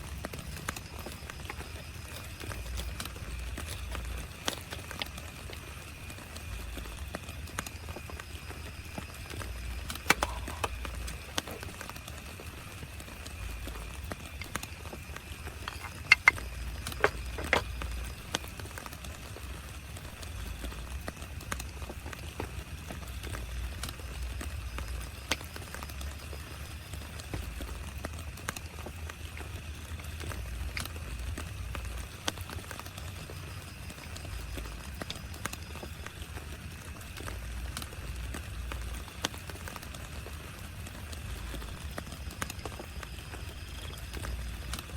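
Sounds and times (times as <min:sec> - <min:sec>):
raindrops tapping on tent fabric: 0:00.0 - 0:44.9
steady rain hiss: 0:00.0 - 0:44.9.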